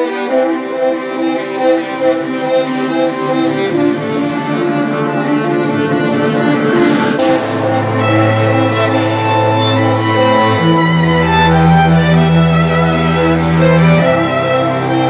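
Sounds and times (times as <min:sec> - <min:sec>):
orchestral strings music: 0:00.0 - 0:15.0
rising swell of noise: 0:00.7 - 0:15.0.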